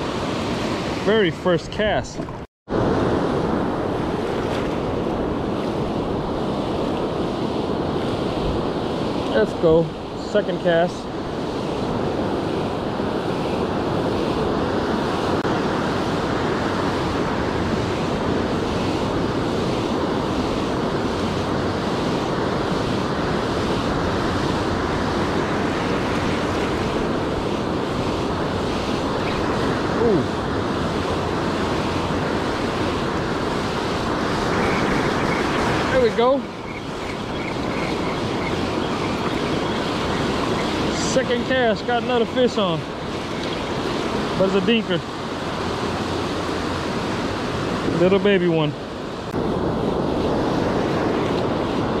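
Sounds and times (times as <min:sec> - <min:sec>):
waves breaking on beach: 0:00.0 - 0:52.0.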